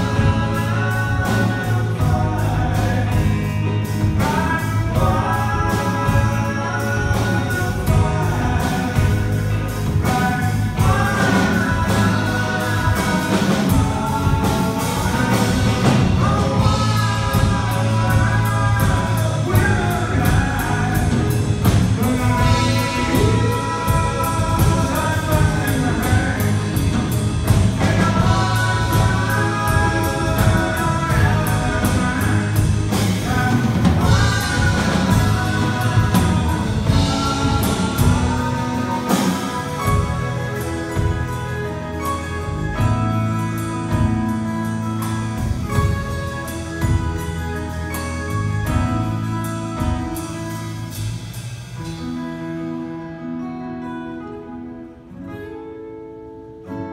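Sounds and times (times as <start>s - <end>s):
drum kit: 0.0s - 53.0s
sustained bass: 0.0s - 53.4s
guitar melody: 0.0s - 56.9s.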